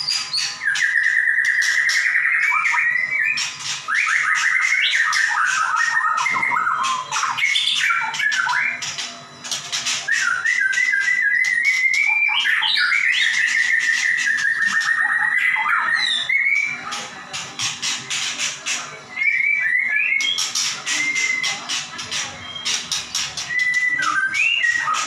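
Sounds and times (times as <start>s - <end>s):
bird clicking and rattling notes: 0.0s - 15.1s, 16.0s - 25.0s
songbird singing whistled notes: 0.0s - 17.0s, 17.6s - 25.0s.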